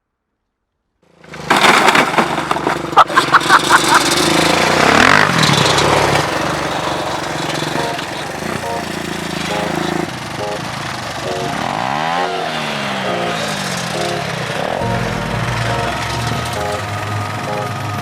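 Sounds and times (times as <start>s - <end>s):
atv engine revving: 1.1s - 18.0s.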